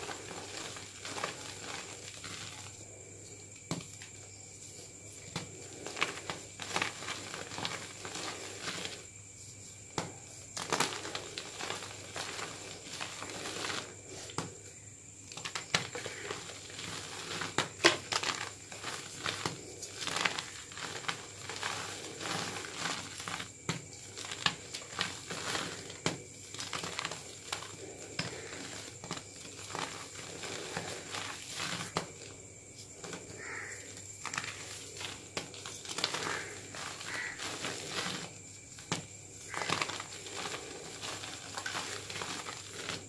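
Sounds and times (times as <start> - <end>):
chalk crunching between hands: 3.9 - 14.6, 15.3 - 43.0.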